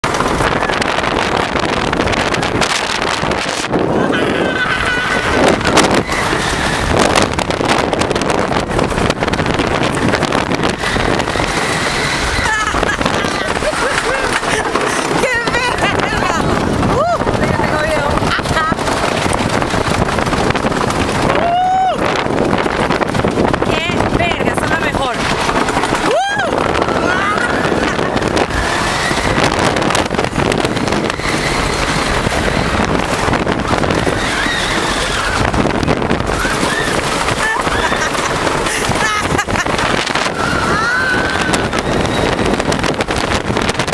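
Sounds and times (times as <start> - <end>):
roller coaster rattling on track: 0.0 - 43.9
wind buffeting microphone: 0.0 - 43.9.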